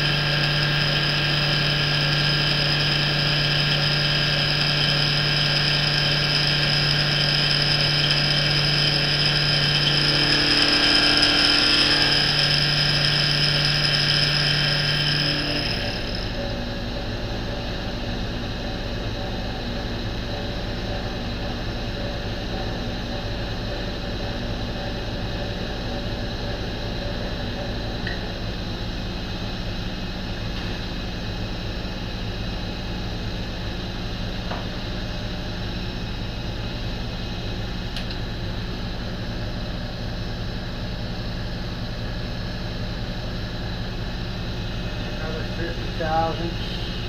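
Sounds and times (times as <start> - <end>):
mill drill motor humming with whine: 0.0 - 47.0.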